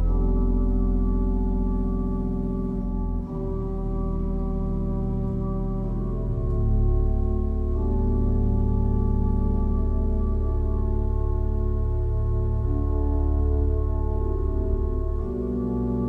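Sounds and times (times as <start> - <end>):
deep sustained bass note: 0.0 - 16.0
pipe organ playing chords: 0.0 - 16.0.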